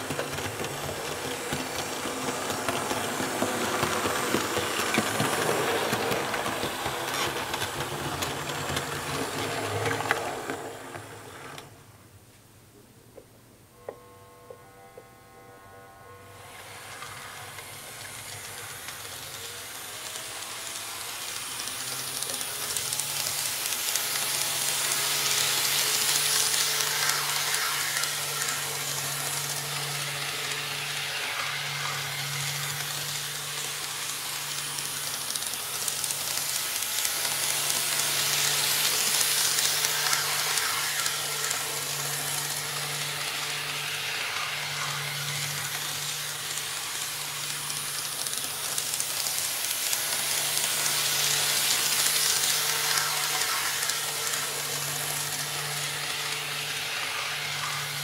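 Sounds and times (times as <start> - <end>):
model train wheels rolling on rail: 0.0 - 11.9, 15.6 - 58.0.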